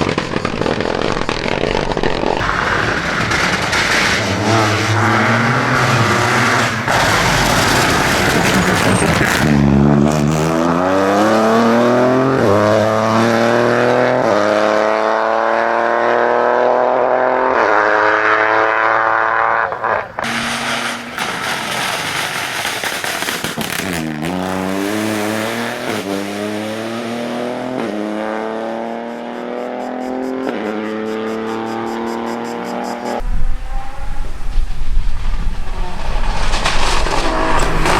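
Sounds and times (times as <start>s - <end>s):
rally car engine at full throttle: 0.0s - 37.9s.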